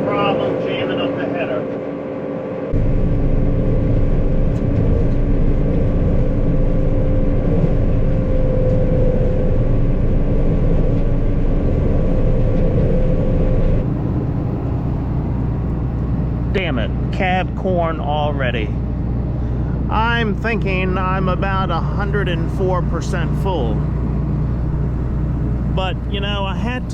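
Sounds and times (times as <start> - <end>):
combine harvester rumbling: 0.0 - 26.9.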